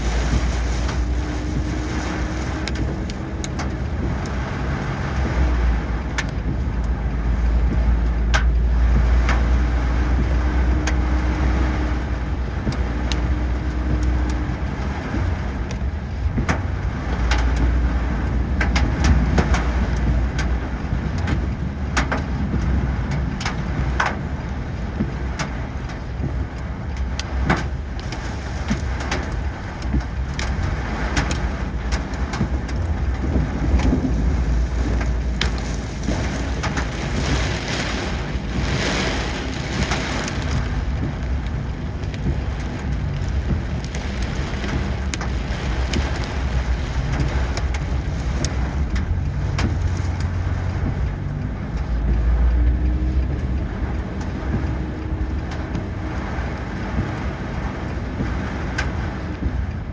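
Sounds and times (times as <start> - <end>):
car engine and road rumble: 0.0 - 59.9
rain ticking on car: 0.0 - 59.9.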